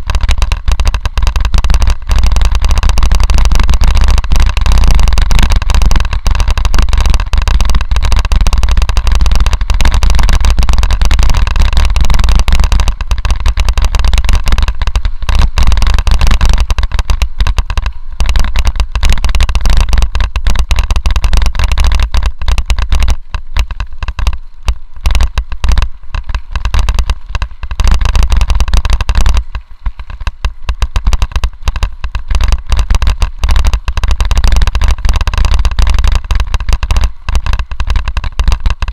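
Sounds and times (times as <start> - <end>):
bike tyres crunching on gravel: 0.0 - 38.9.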